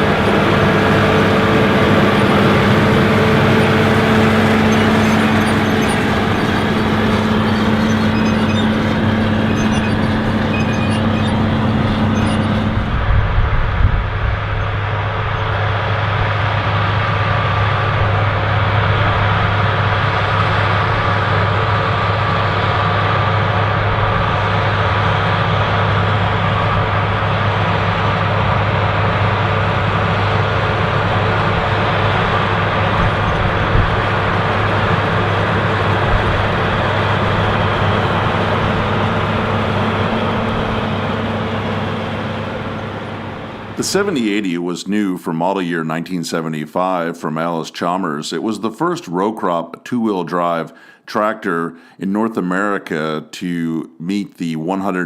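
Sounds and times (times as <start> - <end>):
tractor diesel engine under load: 0.0 - 45.7.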